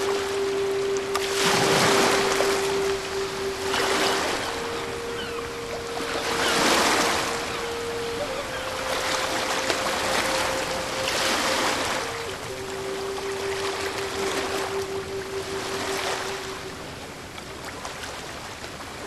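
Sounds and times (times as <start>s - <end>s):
soft sustained musical tone: 0.0s - 18.5s
ocean surf washing in: 0.0s - 18.7s.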